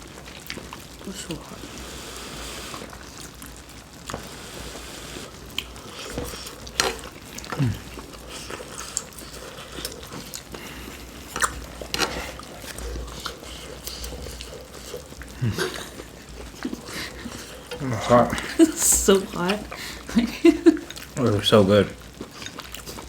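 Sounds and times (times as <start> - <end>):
chewing and wet mouth sounds: 0.0 - 23.0.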